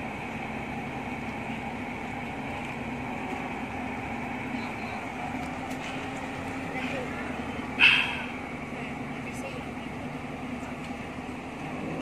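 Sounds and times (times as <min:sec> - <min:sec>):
loader crane running: 0:00.0 - 0:12.0.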